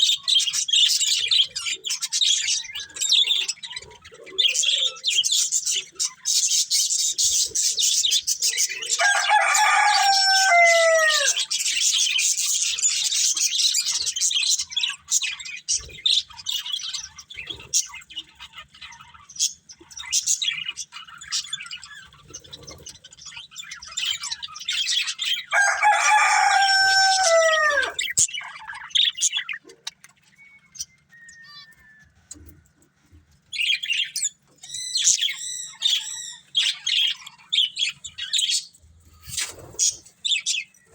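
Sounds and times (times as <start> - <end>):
budgerigars chattering: 0.0 - 31.7, 33.5 - 40.8.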